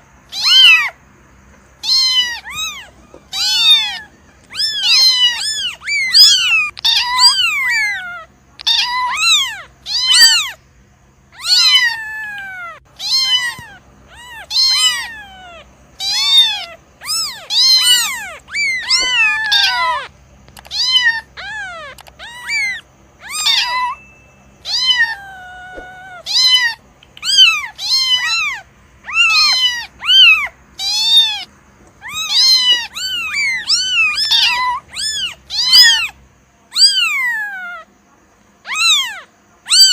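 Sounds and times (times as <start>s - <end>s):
kittens meowing: 0.0s - 10.6s, 11.3s - 37.9s, 38.6s - 39.9s.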